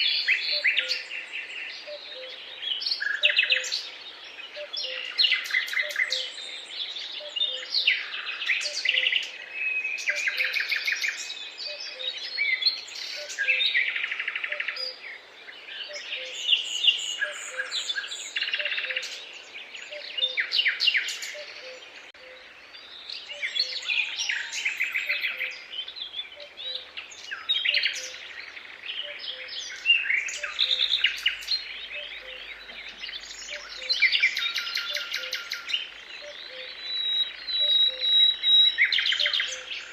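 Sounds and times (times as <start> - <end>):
songbirds chorus trilling: 0.0 - 39.9.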